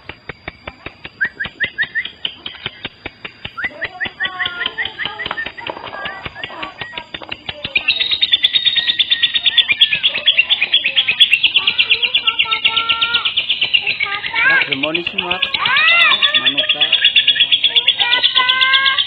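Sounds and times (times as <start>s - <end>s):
lovebird chirping and warbling: 0.0s - 19.0s
rapid high bird notes: 0.0s - 19.0s.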